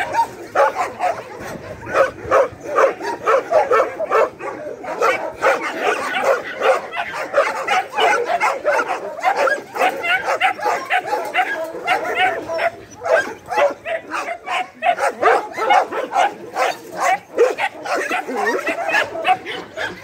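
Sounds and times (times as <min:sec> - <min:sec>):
dog barking: 0:00.0 - 0:20.0.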